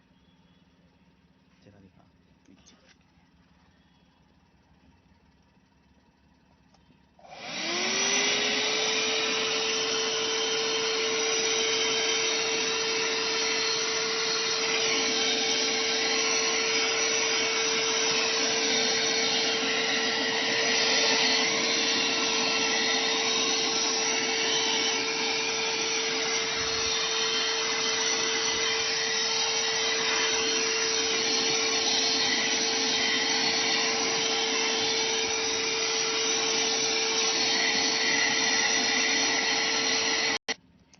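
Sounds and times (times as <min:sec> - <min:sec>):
car vacuum cleaner motor whining: 0:06.7 - 0:40.6.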